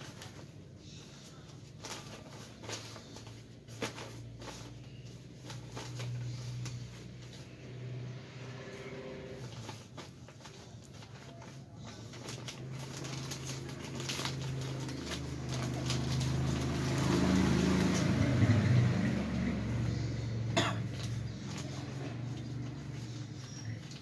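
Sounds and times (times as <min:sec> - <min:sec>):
plastic bag rustling: 0:00.0 - 0:24.0.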